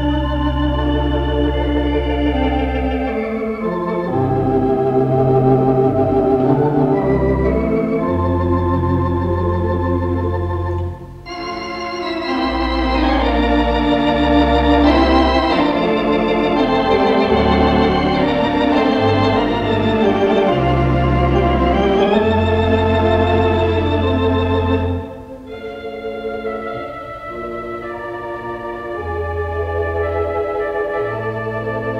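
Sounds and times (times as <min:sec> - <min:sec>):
theatre organ playing chords: 0:00.0 - 0:31.9.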